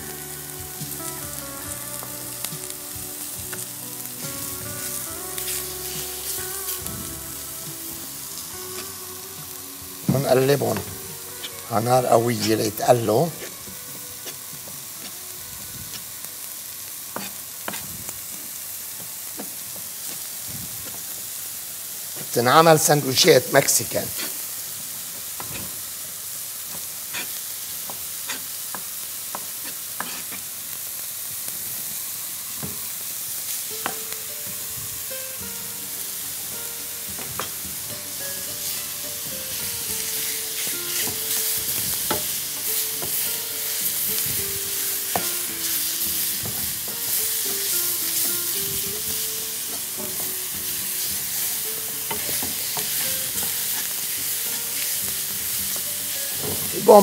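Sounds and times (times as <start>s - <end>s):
chicken sizzling in a pan: 0.0s - 57.0s
quiet background music: 0.0s - 57.0s.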